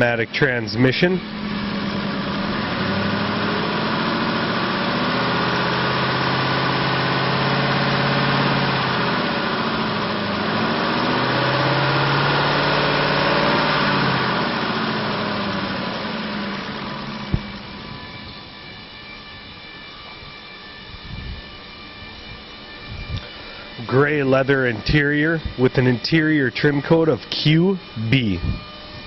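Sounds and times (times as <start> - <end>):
engine revving: 0.0 - 20.0, 21.0 - 29.0.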